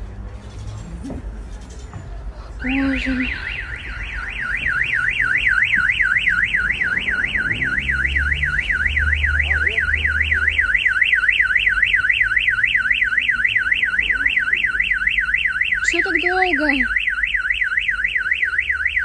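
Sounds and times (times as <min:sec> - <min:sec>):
car alarm wailing: 0:02.6 - 0:19.0.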